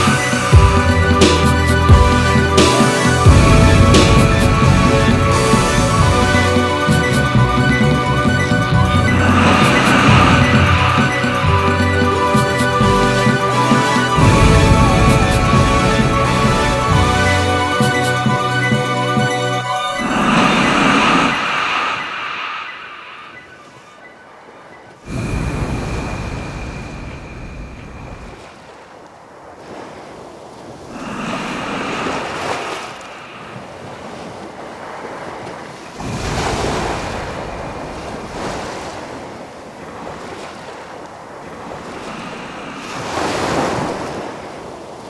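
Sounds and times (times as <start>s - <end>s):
surf and wind rushing: 0.0s - 45.0s.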